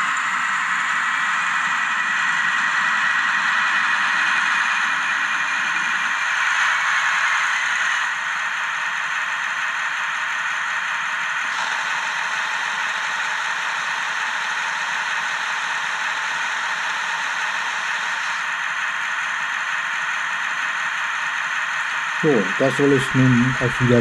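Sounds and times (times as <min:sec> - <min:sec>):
model locomotive diesel engine sound: 0:00.0 - 0:24.0.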